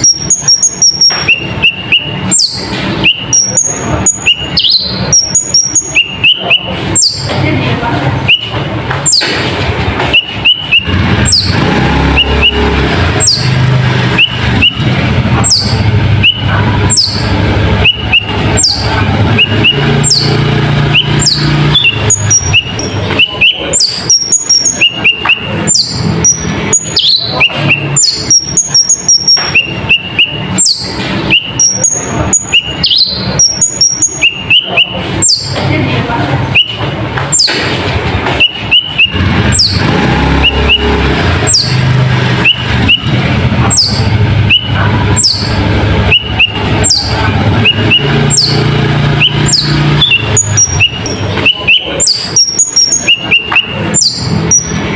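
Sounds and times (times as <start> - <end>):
bird singing high chirps: 0.0 - 7.4, 8.2 - 9.4, 10.0 - 35.7, 36.5 - 37.6, 38.3 - 54.9.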